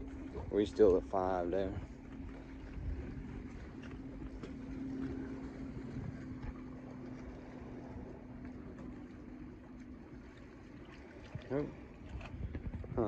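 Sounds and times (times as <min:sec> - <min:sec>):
wind rumbling on microphone: 0:00.0 - 0:08.9, 0:11.0 - 0:13.0
steady low drone: 0:00.0 - 0:13.0.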